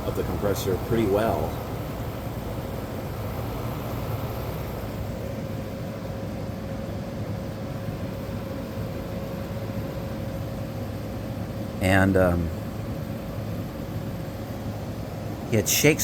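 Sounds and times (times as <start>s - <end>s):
air conditioner fan blowing: 0.0s - 16.0s
compressor humming: 0.0s - 16.0s.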